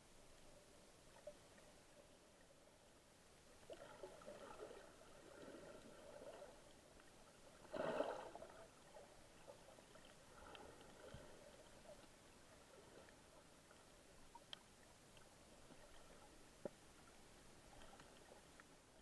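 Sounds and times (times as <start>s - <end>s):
faint underwater water noise: 0.0s - 19.0s.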